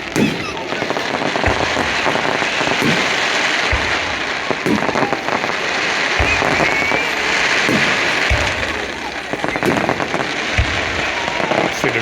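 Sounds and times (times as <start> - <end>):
firework shells booming: 0.0 - 12.0
fireworks crackling: 0.0 - 12.0.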